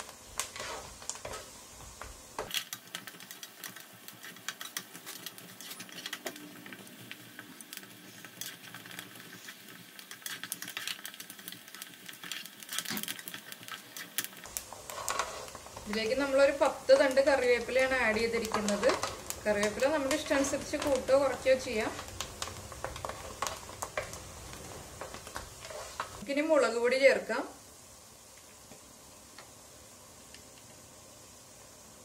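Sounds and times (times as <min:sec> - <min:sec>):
wooden spatula stirring: 0:00.0 - 0:26.2
food sizzling and crackling in oil: 0:00.0 - 0:32.0.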